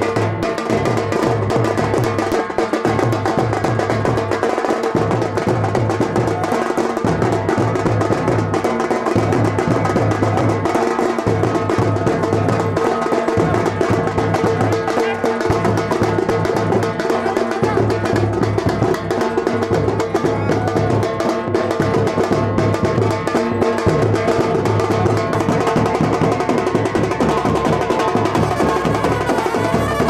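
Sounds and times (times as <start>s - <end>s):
fast drum and percussion beat: 0.0s - 30.0s.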